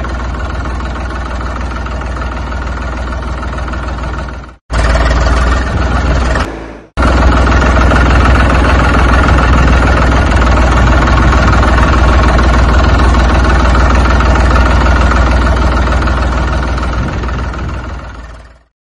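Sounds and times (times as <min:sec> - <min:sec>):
tractor diesel engine running: 0:00.0 - 0:18.7.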